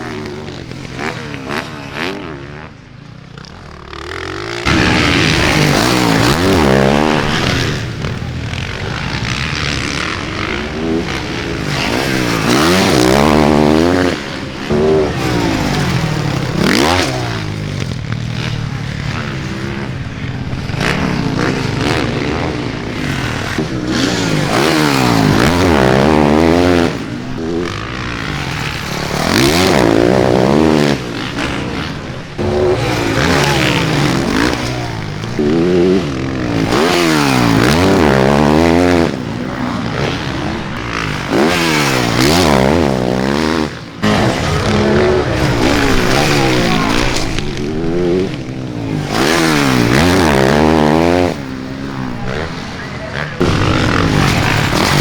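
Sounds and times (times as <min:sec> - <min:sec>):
motocross bikes revving: 0:00.0 - 0:55.0.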